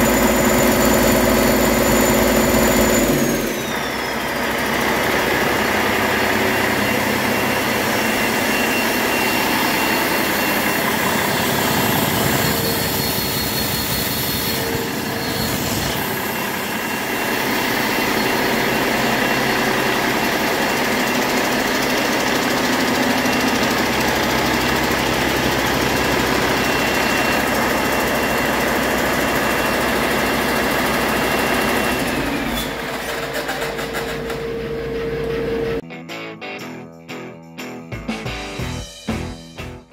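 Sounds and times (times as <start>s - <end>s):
high steady whine: 0.0s - 32.2s
diesel engine running: 0.0s - 35.8s.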